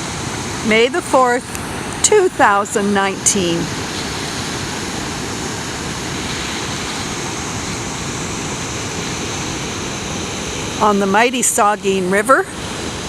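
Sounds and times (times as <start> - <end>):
river pouring over a dam: 0.0 - 13.0.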